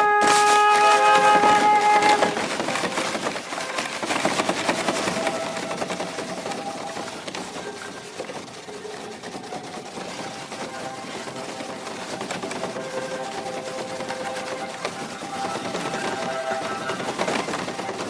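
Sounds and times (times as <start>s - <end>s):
rapid clicking and rustling: 0.0s - 18.0s.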